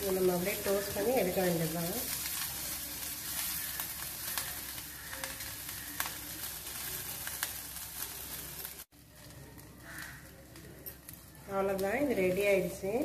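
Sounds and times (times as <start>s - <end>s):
butter sizzling and crackling: 0.0s - 13.0s.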